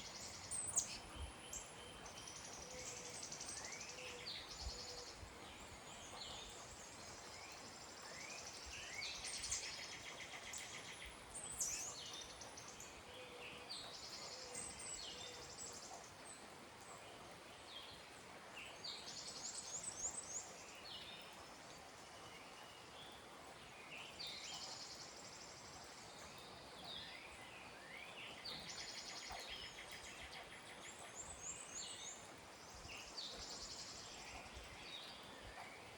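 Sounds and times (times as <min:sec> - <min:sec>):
faint steady hiss: 0:00.0 - 0:35.9
songbirds singing: 0:00.0 - 0:35.9.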